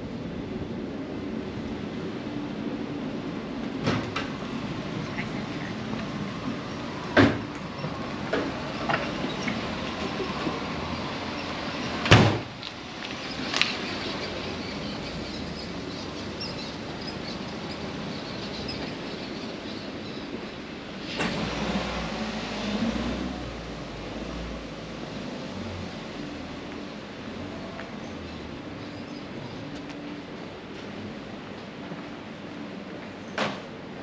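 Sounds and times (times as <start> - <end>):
street background noise: 0.0 - 34.0.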